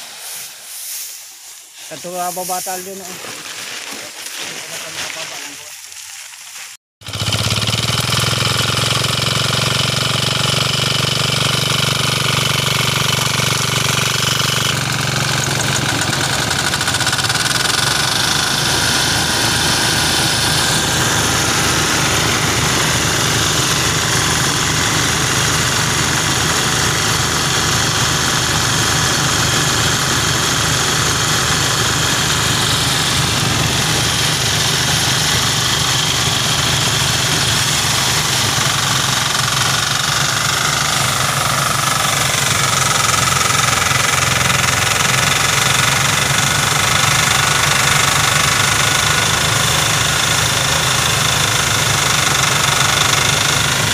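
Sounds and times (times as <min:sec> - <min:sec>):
small engine driving thresher: 0:07.0 - 0:53.9.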